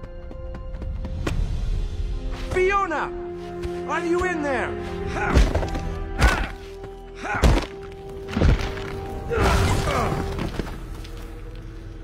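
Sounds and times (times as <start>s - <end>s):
film music: 0.0s - 12.0s.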